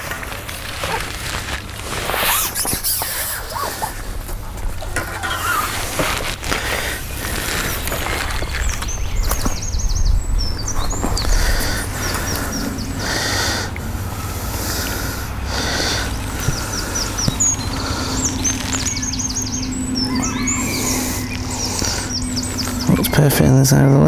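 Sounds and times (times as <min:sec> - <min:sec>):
songbirds chirping: 0:00.0 - 0:24.0
low rumble: 0:03.2 - 0:23.3.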